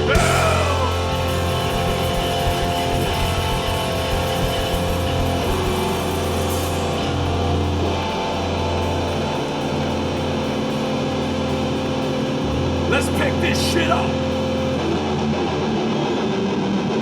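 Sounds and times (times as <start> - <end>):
crashing cymbals: 0.0 - 15.0
punk band playing loud: 0.0 - 15.0.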